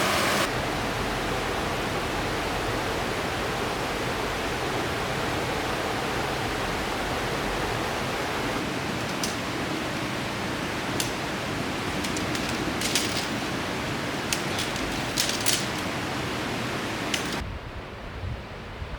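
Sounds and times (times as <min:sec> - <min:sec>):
river water rushing: 0:00.0 - 0:17.4.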